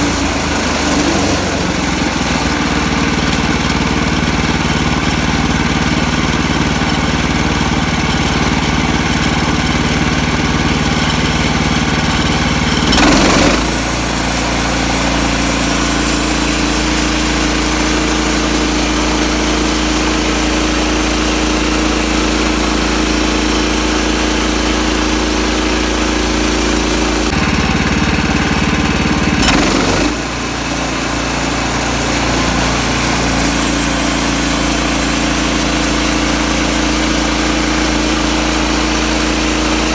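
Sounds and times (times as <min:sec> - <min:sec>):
gasoline engine running: 0:00.0 - 0:39.9.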